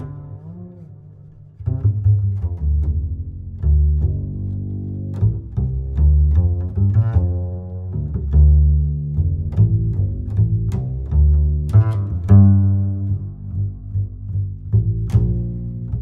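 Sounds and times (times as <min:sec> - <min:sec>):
instrumental music with deep bass: 0:00.0 - 0:16.0.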